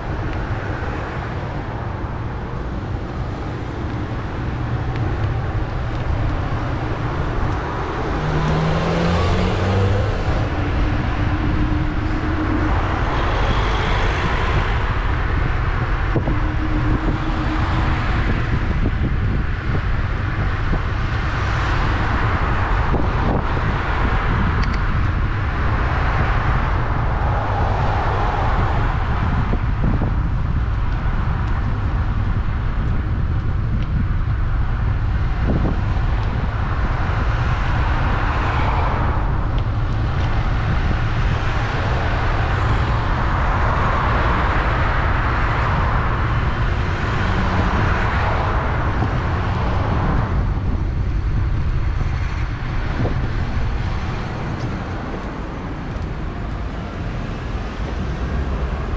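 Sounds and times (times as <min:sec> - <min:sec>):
low traffic rumble: 0:00.0 - 0:58.9
vehicles passing: 0:00.0 - 0:58.9.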